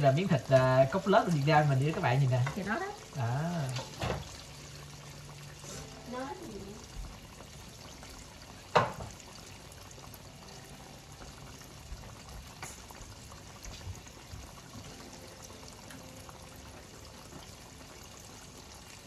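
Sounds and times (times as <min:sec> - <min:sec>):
deep-frying oil sizzle: 0:00.0 - 0:19.0.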